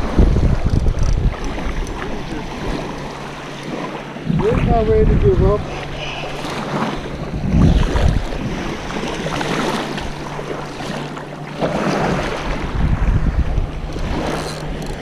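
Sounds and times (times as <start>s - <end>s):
shallow surf washing: 0.0s - 15.0s
wind buffeting microphone: 0.0s - 15.0s.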